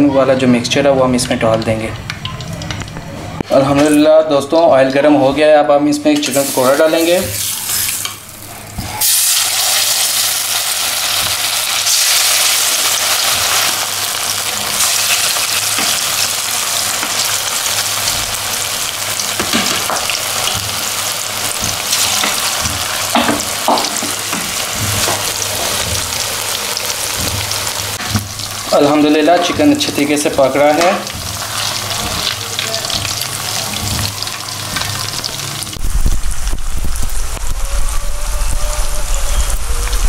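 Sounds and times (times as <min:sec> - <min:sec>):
food deep-frying in oil: 0:00.3 - 0:05.1, 0:06.1 - 0:40.0.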